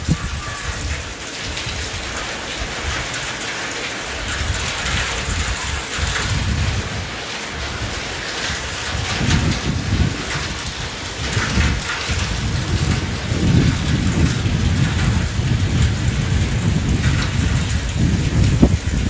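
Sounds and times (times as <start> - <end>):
heavy rain on ground: 0.0 - 19.0.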